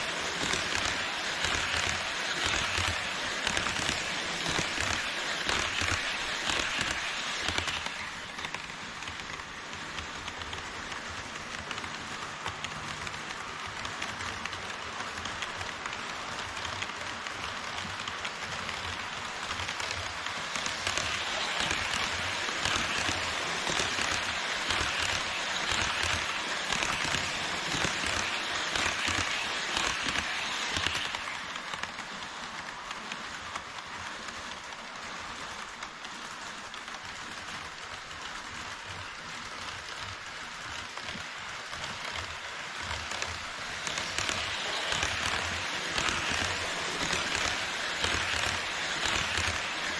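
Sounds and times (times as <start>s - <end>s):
model train wheels rushing on track: 0.0s - 49.9s.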